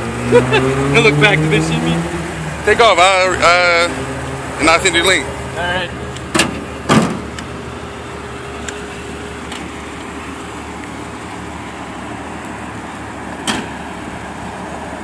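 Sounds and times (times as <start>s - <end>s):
car engine idling: 2.4s - 15.0s.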